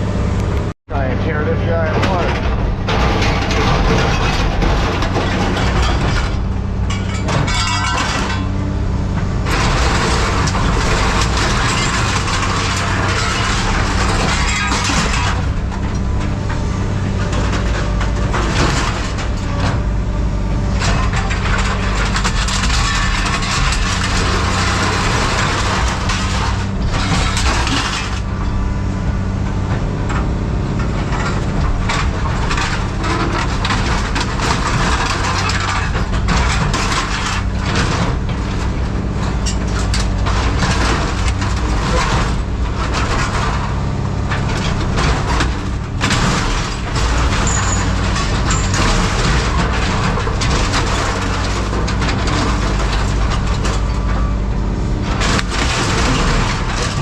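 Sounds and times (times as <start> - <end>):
diesel engine running: 0.0 - 57.0
scrap metal clanking and crunching: 0.0 - 57.0.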